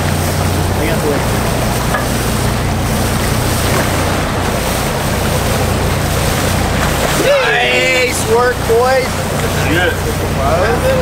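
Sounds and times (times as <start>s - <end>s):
boat engine hum: 0.0s - 11.0s
churning wake rushing: 0.0s - 11.0s
wind buffeting the microphone: 0.0s - 11.0s.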